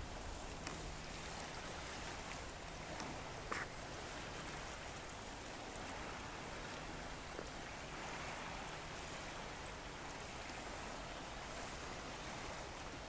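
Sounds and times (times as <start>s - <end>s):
calm seashore ambience: 0.0s - 13.0s.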